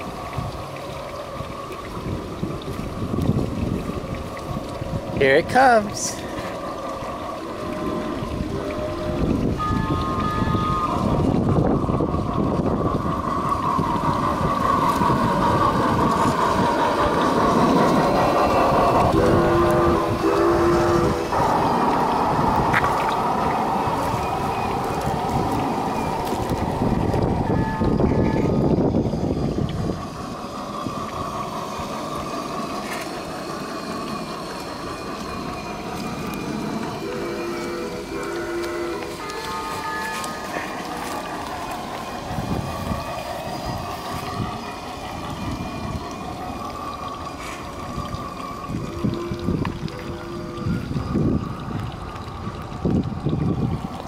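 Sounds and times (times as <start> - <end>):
model train wheels on rail joints: 5.4 - 54.0.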